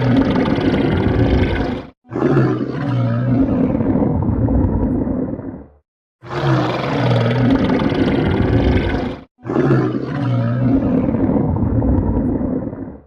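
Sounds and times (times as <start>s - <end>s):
stomach growling: 0.0s - 5.8s, 6.6s - 13.0s.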